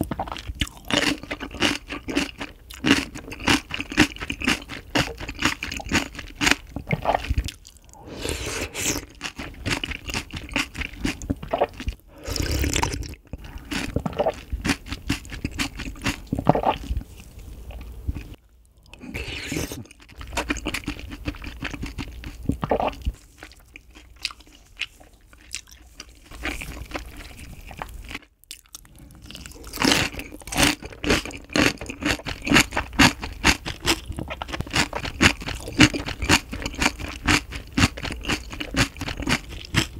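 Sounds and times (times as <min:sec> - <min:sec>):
chewing rice: 0:00.0 - 0:07.9, 0:08.9 - 0:39.9
chewing crunchy cabbage: 0:00.0 - 0:39.9.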